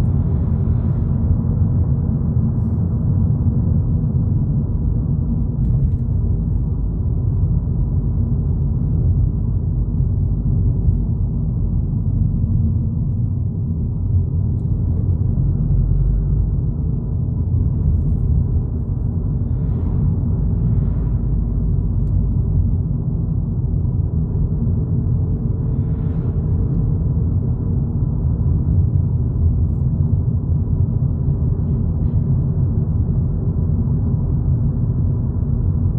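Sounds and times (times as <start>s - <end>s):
road and engine rumble in car cabin: 0.0s - 35.9s.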